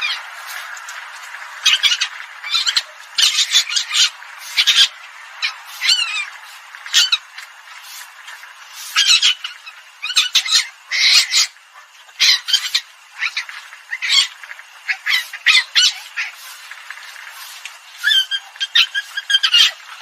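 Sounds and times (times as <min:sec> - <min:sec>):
recorded civet squawks: 0:01.6 - 0:08.1, 0:08.7 - 0:16.6, 0:17.3 - 0:20.0.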